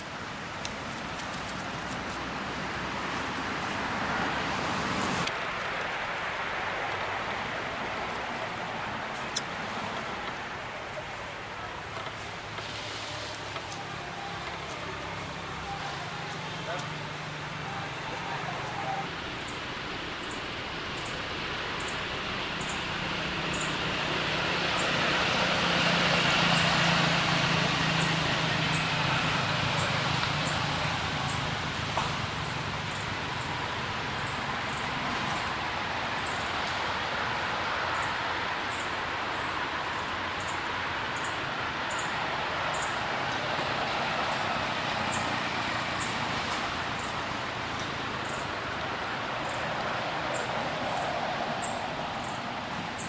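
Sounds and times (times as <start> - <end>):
distant vehicle passing: 0.0 - 53.0
outdoor background hiss: 0.0 - 53.0.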